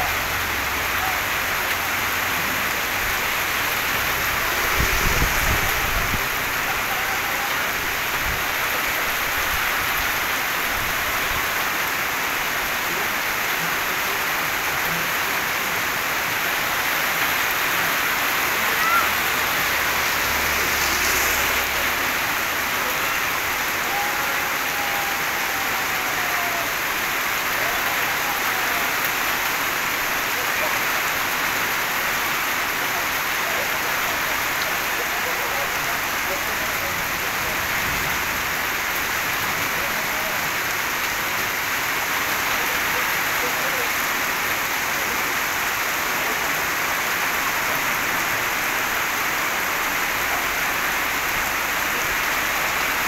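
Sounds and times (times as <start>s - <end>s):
rain on concrete street: 0.0s - 53.0s.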